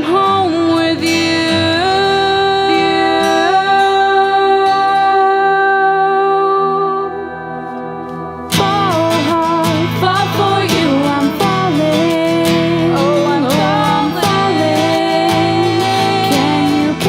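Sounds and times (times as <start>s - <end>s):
guitar: 0.0s - 17.0s.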